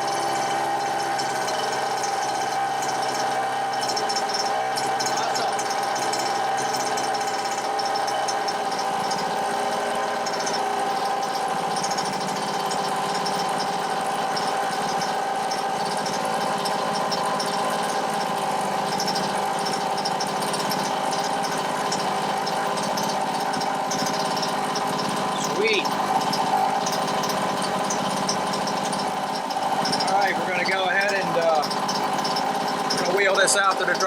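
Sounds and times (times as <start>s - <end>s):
two-stroke engine running: 0.0s - 34.0s.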